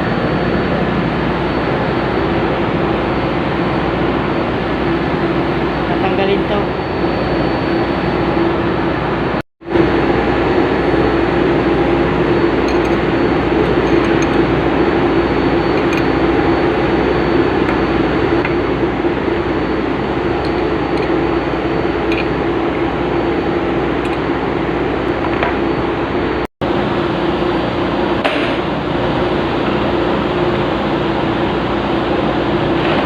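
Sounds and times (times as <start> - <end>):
engine room machinery drone: 0.0 - 33.0.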